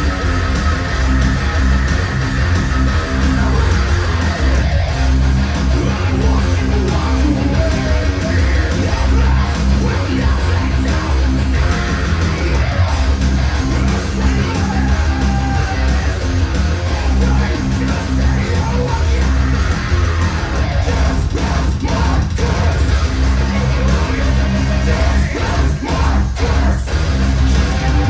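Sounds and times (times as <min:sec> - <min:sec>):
heavy rock music: 0:00.0 - 0:28.0
shouted vocal: 0:00.0 - 0:28.0.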